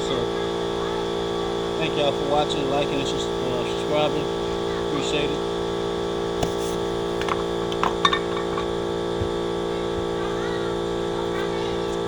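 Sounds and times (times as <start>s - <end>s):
air compressor motor hum: 0.0s - 11.3s.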